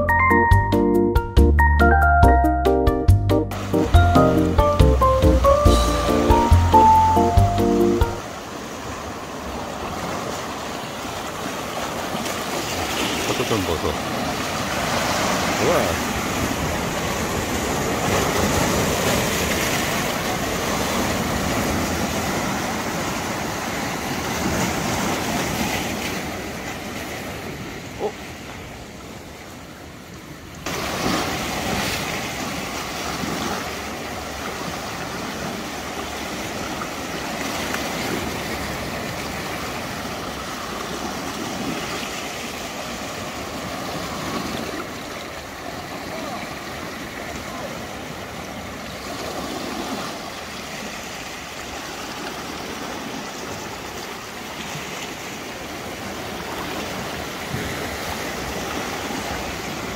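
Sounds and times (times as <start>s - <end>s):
surf washing over rocks: 3.5s - 4.7s, 8.2s - 59.9s.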